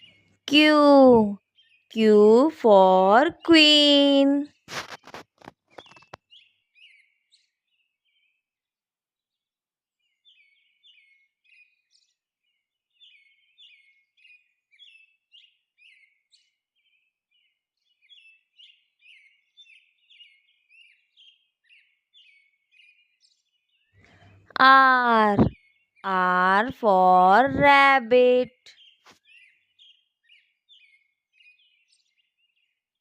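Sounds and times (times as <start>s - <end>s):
faint birdsong high chirps: 0.0s - 33.0s.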